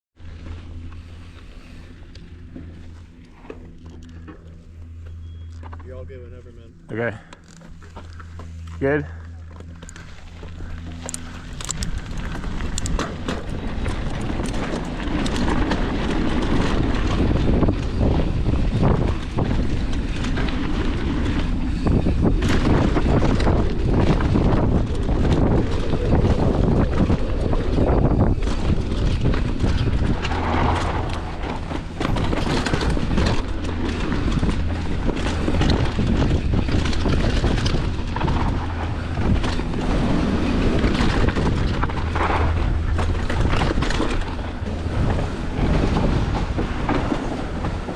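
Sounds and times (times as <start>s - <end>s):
bike parts rattling: 7.1s - 47.8s
wind rumble on microphone: 7.5s - 47.9s.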